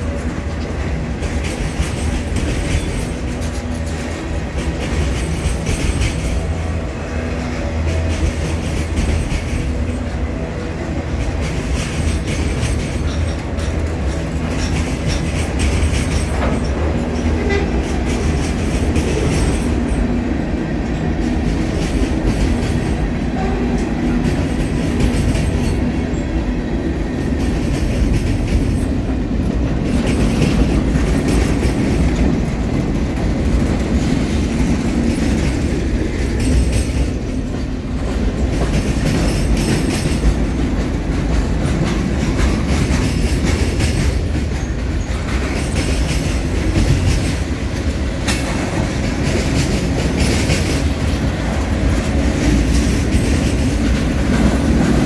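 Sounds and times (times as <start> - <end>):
wheels clattering over rail joints: 0.0 - 26.5, 27.1 - 55.0
train wheels rumbling on rails: 0.0 - 55.0.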